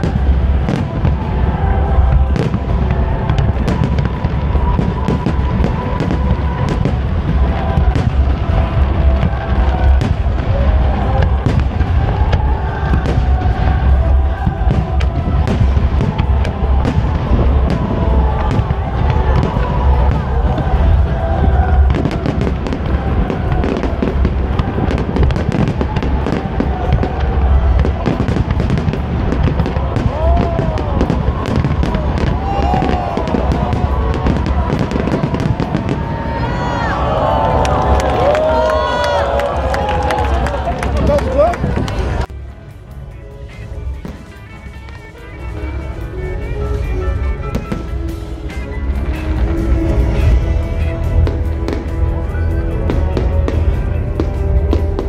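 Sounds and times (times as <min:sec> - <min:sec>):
music with heavy bass: 0:00.0 - 0:35.8, 0:42.1 - 0:55.0
fireworks bursting: 0:00.0 - 0:42.7, 0:43.5 - 0:55.0
fireworks crackling: 0:00.0 - 0:55.0.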